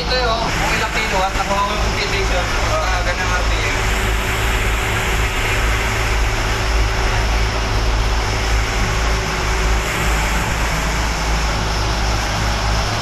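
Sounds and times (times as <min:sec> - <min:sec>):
boat engine drone: 0:00.0 - 0:13.0
water wash noise: 0:00.0 - 0:13.0.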